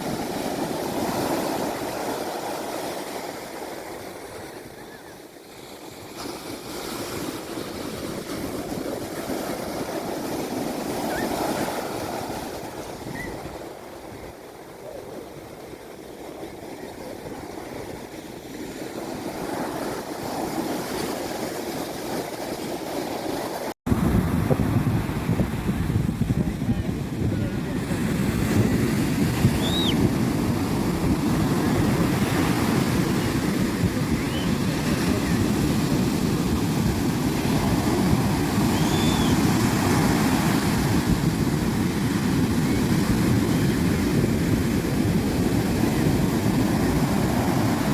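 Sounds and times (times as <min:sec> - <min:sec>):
sea waves washing in: 0:00.0 - 0:47.9
wind buffeting microphone: 0:06.0 - 0:23.1, 0:23.9 - 0:47.9.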